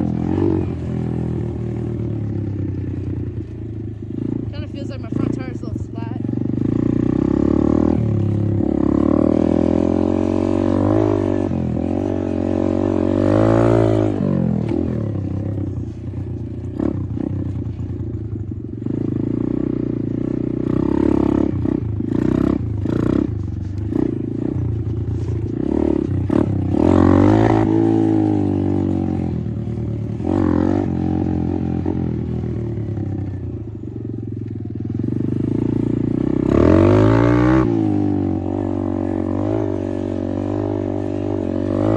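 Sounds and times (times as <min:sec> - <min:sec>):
motorbike engine revving: 0:00.0 - 0:41.9.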